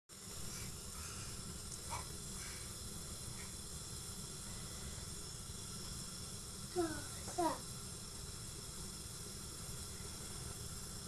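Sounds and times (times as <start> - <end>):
steady background hiss: 0.1 - 11.0.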